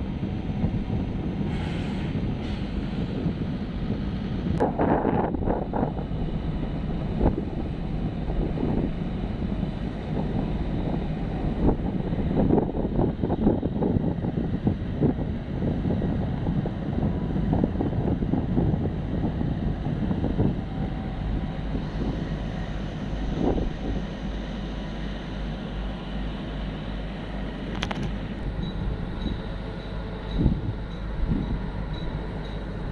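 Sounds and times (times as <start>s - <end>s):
low engine drone: 0.0s - 32.9s
wind buffeting microphone: 0.0s - 32.9s.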